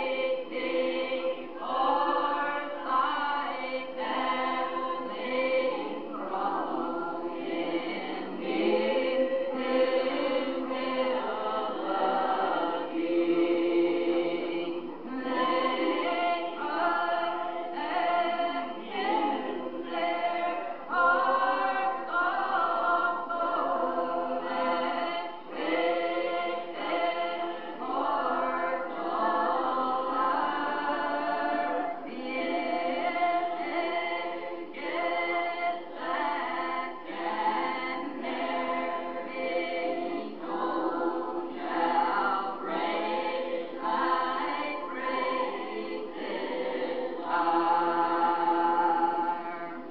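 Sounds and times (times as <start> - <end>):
congregation singing a hymn: 0.0 - 49.9.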